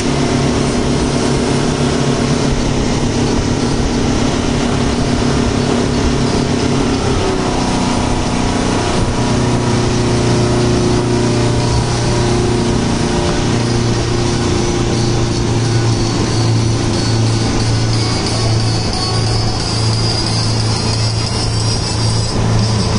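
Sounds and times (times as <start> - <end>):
speedboat engine running: 0.0 - 22.9
water and wind rushing: 0.0 - 22.9.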